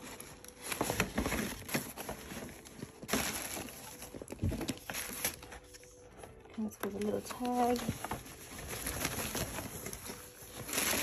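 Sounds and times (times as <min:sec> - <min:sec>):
tissue paper rustling and crackling: 0:00.0 - 0:11.0.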